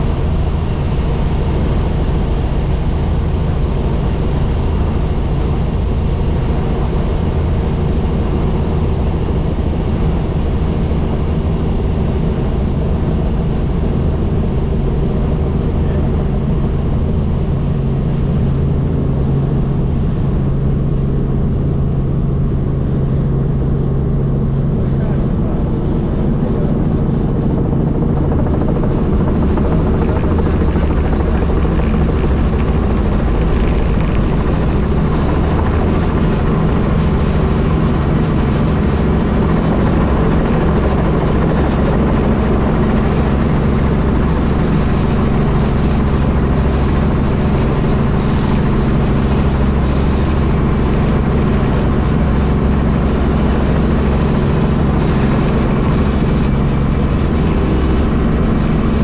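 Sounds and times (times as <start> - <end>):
helicopter rotor drone: 0.0 - 59.0.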